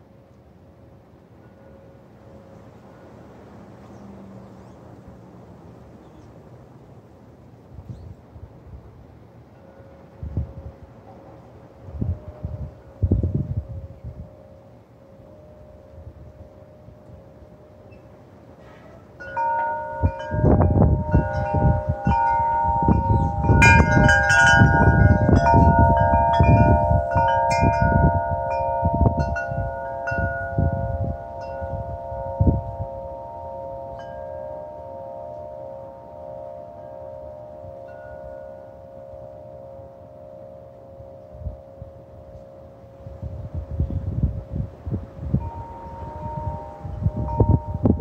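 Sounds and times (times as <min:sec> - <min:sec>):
low rumble of wind gusts: 0:00.0 - 0:48.0
wind chimes ringing: 0:01.3 - 0:03.1, 0:09.5 - 0:48.0.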